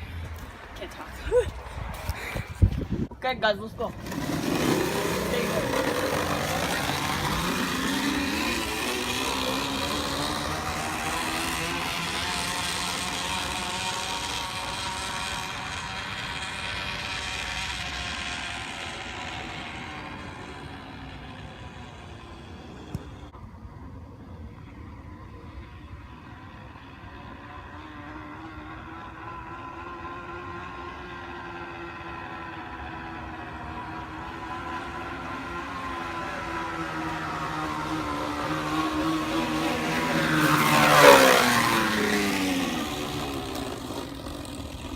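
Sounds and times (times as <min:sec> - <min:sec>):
small motorbike engine: 0:03.7 - 0:44.9.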